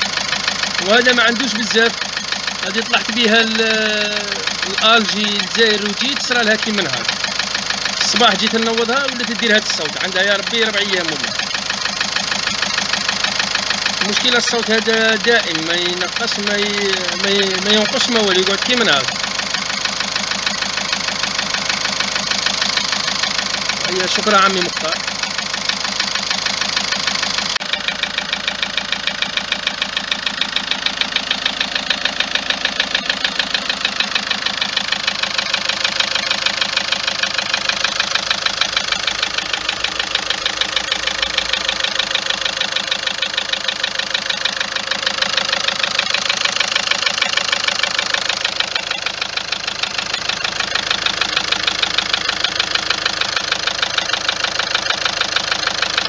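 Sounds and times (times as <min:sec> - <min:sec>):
car engine idling: 0:00.0 - 0:56.0
rapid ticking engine knock: 0:00.0 - 0:56.0.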